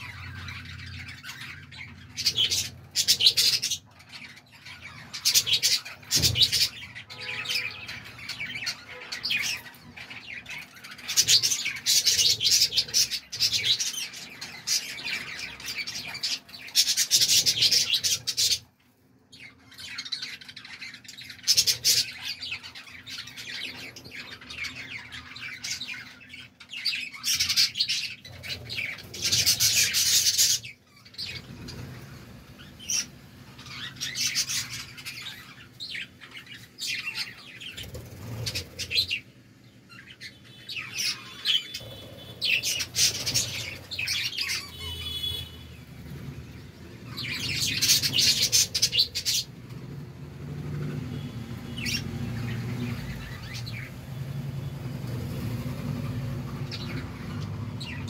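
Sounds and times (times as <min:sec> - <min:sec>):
budgerigars chirping: 0:00.0 - 0:18.7, 0:19.3 - 0:49.8, 0:50.9 - 0:58.0.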